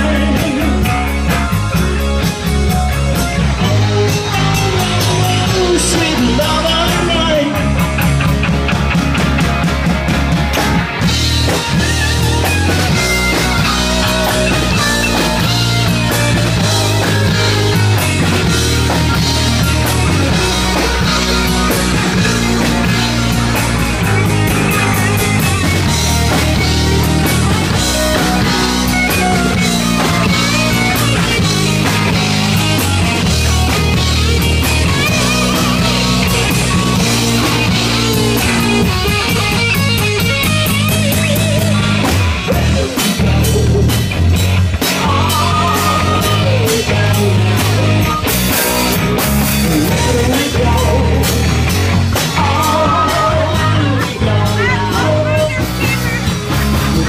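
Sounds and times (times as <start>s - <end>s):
bass line: 0.0s - 57.0s
drum kit: 0.0s - 57.0s
electric guitar: 0.0s - 57.0s.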